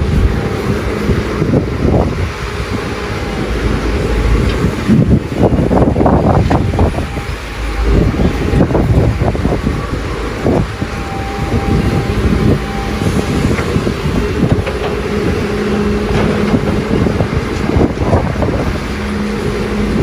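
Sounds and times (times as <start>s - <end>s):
excavator diesel engine under load: 0.0s - 20.0s
hydraulic whine: 0.0s - 20.0s.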